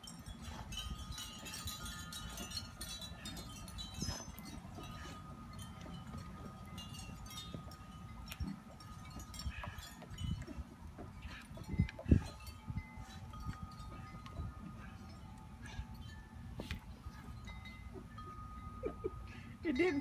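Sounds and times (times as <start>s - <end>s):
chimes tinkling: 0.0s - 20.0s.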